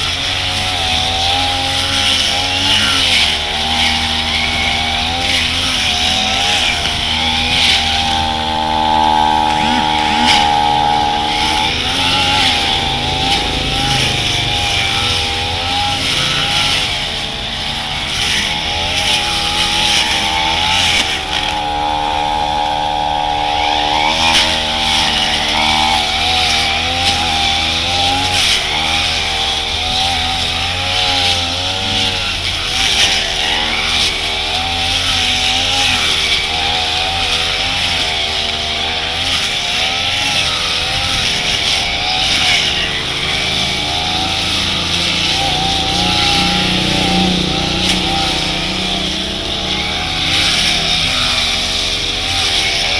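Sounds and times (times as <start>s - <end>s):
brush cutter cutting grass: 0.0s - 52.9s.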